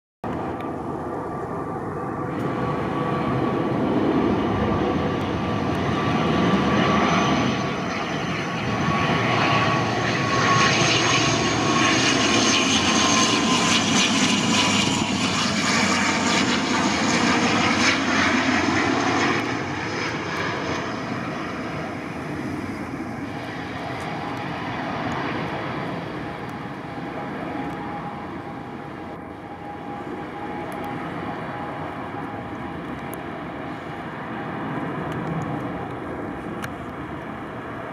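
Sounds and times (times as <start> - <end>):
turboprop airliner flying over: 0.2 - 37.9.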